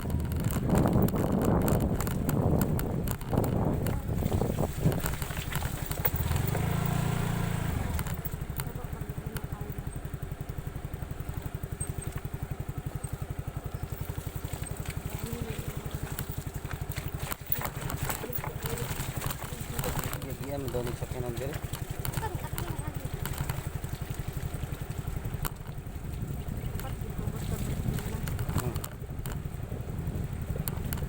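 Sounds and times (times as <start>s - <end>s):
scooter engine running: 0.0s - 31.0s.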